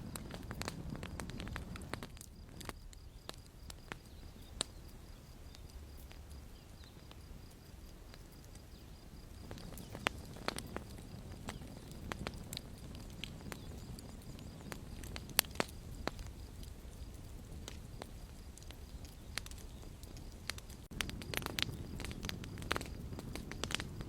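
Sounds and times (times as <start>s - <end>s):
campfire crackling and popping: 0.0s - 24.0s
low rumble of flames: 0.0s - 24.0s.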